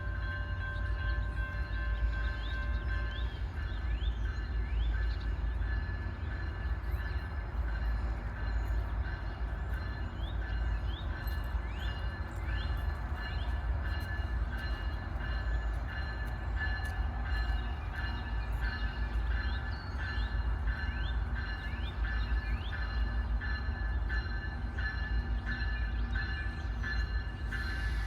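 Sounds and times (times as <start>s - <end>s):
diesel train rumbling: 0.0s - 28.0s.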